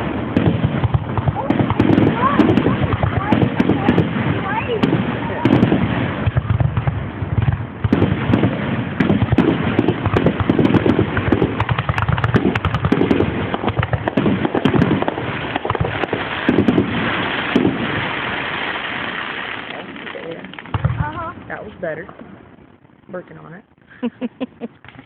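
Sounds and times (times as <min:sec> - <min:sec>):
fireworks bangs and pops: 0:00.0 - 0:25.0
fireworks crackling: 0:00.0 - 0:25.0.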